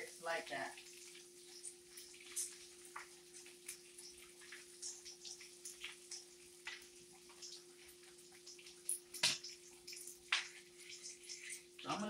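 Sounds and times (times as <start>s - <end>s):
grease crackling and popping in pan: 0.0s - 12.0s.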